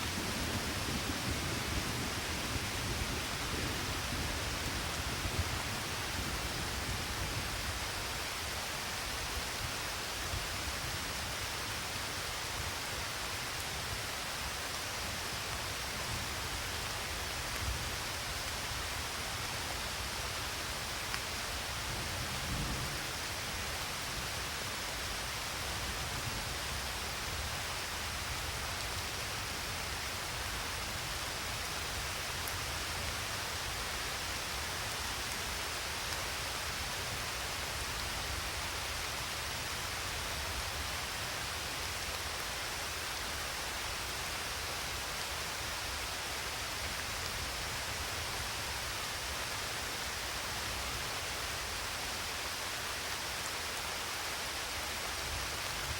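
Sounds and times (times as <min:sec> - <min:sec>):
rain hissing: 0:00.0 - 0:55.9.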